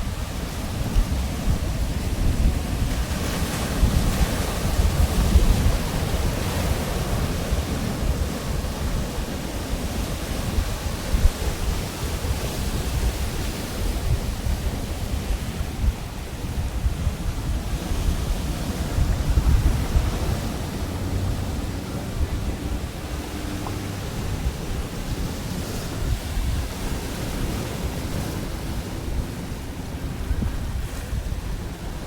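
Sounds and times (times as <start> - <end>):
surf breaking on beach: 0.0 - 32.0
wind rumbling on microphone: 0.0 - 32.0.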